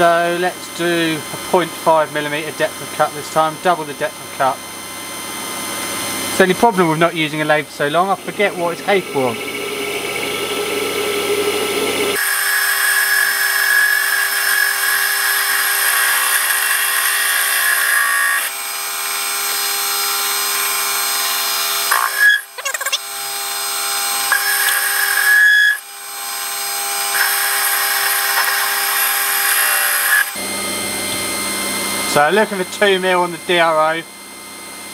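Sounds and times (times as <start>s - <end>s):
lathe motor and gear whine: 0.0s - 34.9s.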